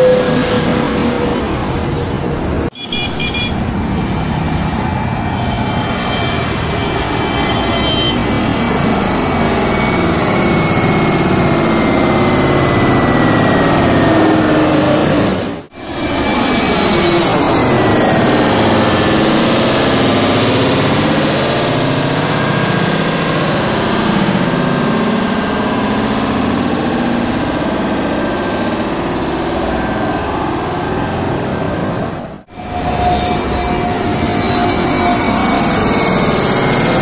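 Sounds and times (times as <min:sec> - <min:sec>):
jet airliner passing overhead: 0:00.0 - 0:37.0.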